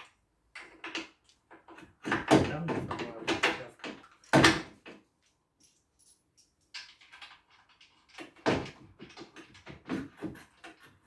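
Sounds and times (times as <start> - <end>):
metal knocks and clatter: 0.0 - 11.0.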